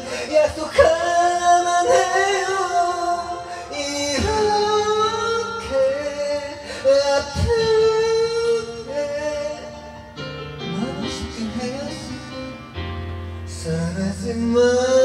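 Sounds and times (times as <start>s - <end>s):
man singing into microphone: 0.0s - 12.7s, 13.4s - 15.0s
backing track music: 0.0s - 15.0s.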